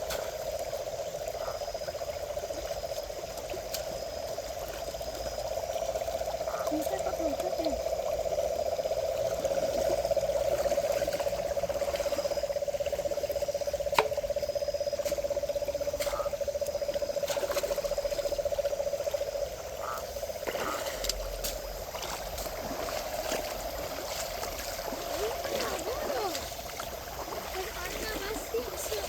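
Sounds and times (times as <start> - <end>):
frogs trilling: 0.0 - 29.0
water trickling: 0.0 - 29.0.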